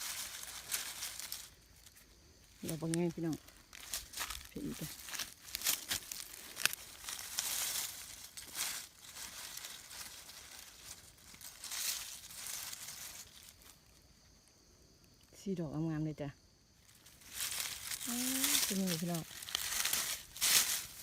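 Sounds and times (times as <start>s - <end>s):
dry leaves crackling and rustling: 0.0s - 14.1s, 16.8s - 21.0s.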